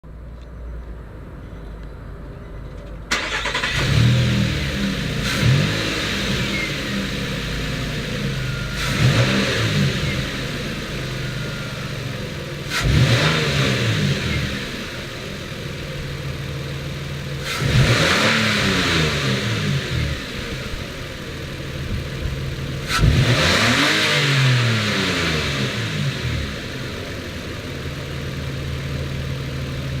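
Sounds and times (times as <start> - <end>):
van engine starting and revving: 3.1 - 30.0.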